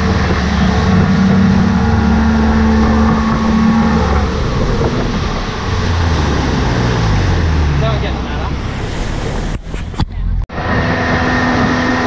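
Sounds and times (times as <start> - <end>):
churning wake: 0.0 - 12.0
outboard motor running: 0.0 - 12.0
wind: 0.0 - 12.0.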